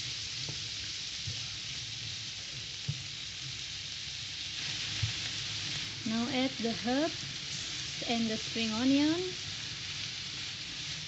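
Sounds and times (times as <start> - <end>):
prawns sizzling in a frying pan: 0.0 - 11.0.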